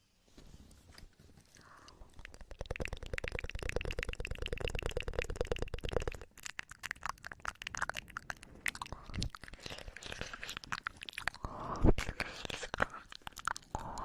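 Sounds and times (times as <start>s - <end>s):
lip and tongue clicks: 1.5s - 14.0s.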